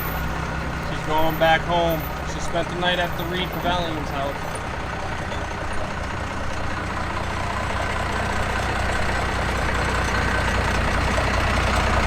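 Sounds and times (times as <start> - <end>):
road noise: 0.0 - 12.0
vehicle engine droning: 0.0 - 12.0.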